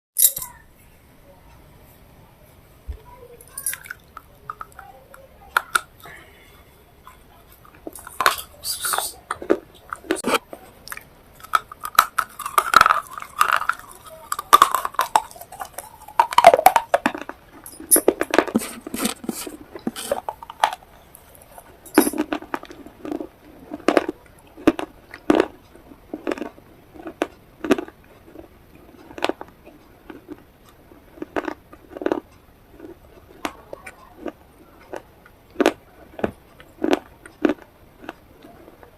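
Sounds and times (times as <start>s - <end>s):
chewing and crunching: 3.5s - 38.9s.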